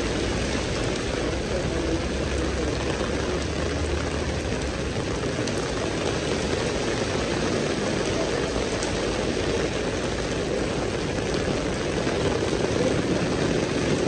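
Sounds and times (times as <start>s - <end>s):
heavy rain on pavement and umbrellas: 0.0s - 14.0s.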